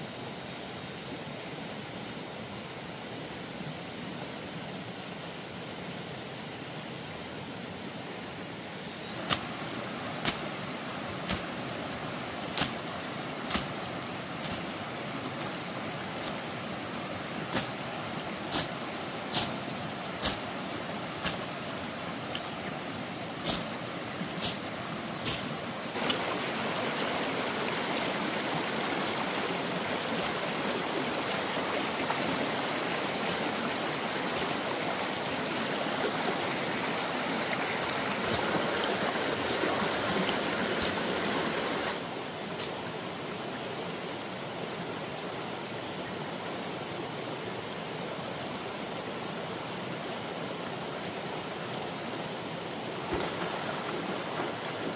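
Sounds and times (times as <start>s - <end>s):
flowing water: 0.0s - 54.9s.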